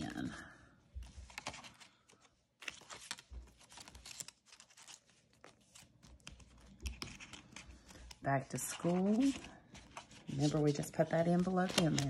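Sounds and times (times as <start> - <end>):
paper banknotes rustling: 1.2 - 12.0.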